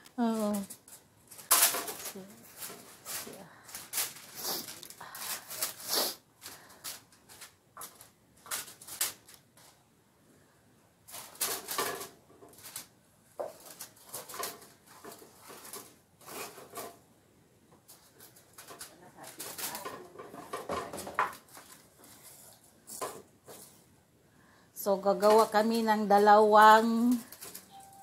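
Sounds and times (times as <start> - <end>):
paper and foil rustling: 0.2 - 9.8, 11.1 - 17.0, 17.8 - 23.9, 25.0 - 28.0.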